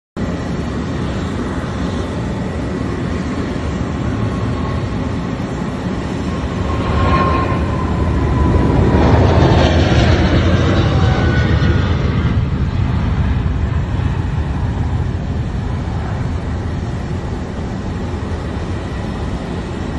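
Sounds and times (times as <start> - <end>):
faint jet engine whine: 0.2 - 19.9
jet engines rumbling: 0.2 - 19.9.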